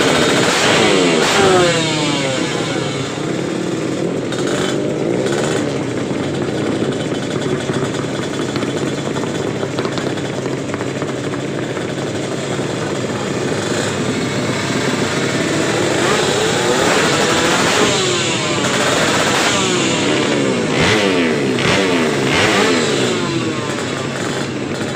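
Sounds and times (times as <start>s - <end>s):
motorcycle engines running loudly: 0.0s - 24.9s.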